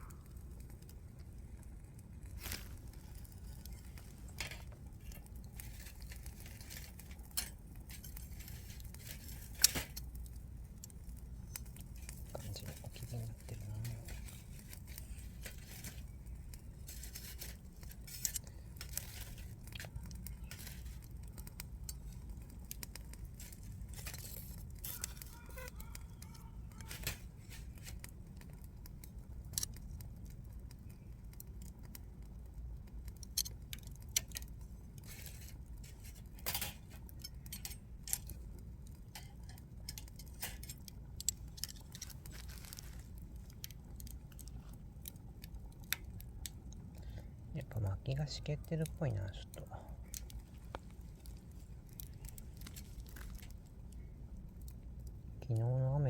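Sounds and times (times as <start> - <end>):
steady low rumble: 0.0 - 24.8, 26.2 - 56.0
firewood cracking and snapping: 0.0 - 56.0.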